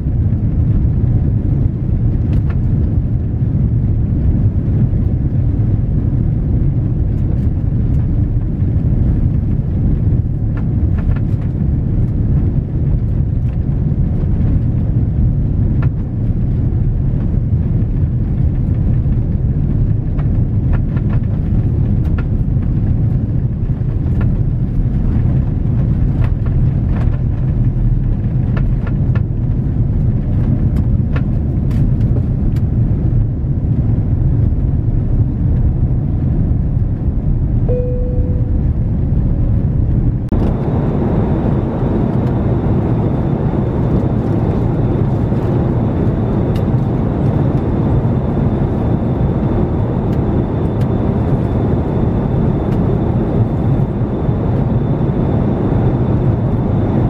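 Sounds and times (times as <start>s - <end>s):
jet engines low rumble: 0.0s - 57.0s.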